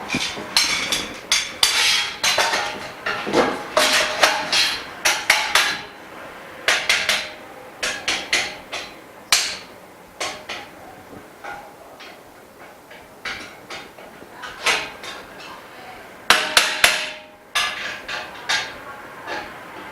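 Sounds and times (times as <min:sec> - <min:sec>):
metallic knocks on metal bars: 0:00.0 - 0:06.0, 0:06.6 - 0:10.8, 0:11.4 - 0:15.6, 0:16.3 - 0:19.9.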